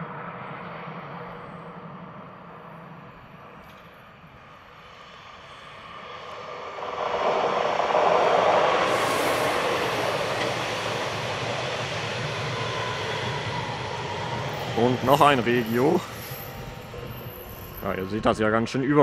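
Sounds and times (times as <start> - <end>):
electric train passing: 0.0 - 19.0.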